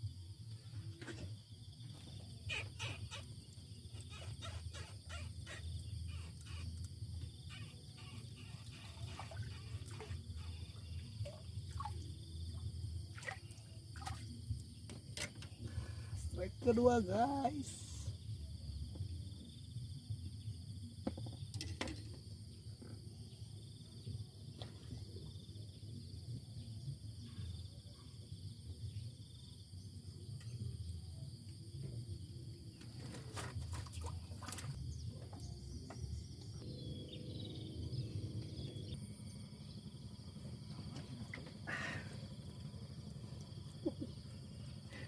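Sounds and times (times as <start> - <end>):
high insect drone: 0.0 - 24.6, 25.2 - 45.0.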